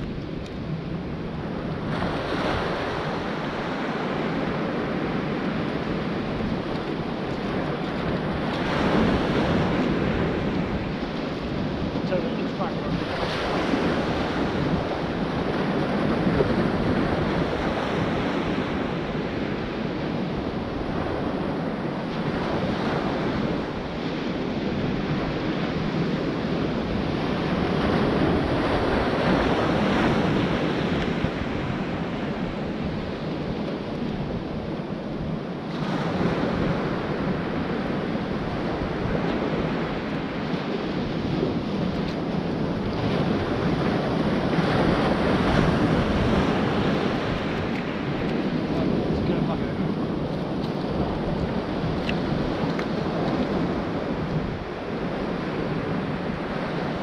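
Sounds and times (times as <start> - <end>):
sea waves breaking on a beach: 0.0 - 57.0
wind buffeting the microphone: 0.0 - 57.0.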